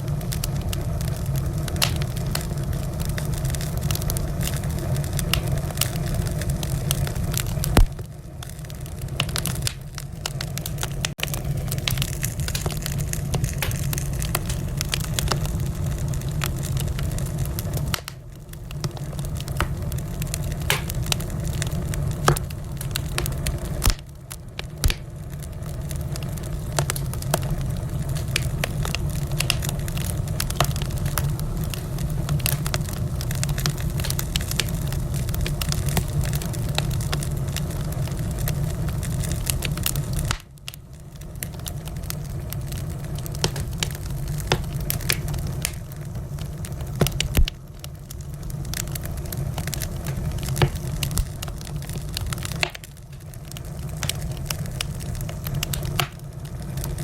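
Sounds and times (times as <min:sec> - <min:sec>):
fire pops and snaps: 0:00.0 - 0:57.0
wood fire crackling: 0:00.0 - 0:57.0.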